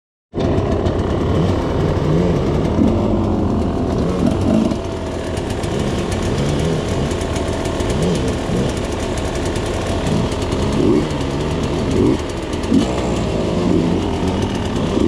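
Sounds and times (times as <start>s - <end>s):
dirt bike engines revving: 0.4s - 15.0s.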